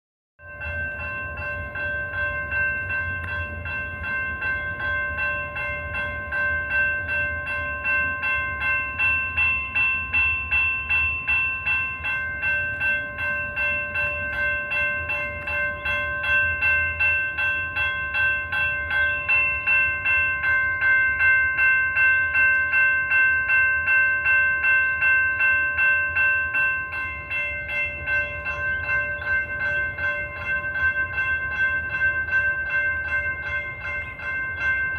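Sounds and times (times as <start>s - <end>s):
railroad crossing bell ringing: 0.4s - 34.9s.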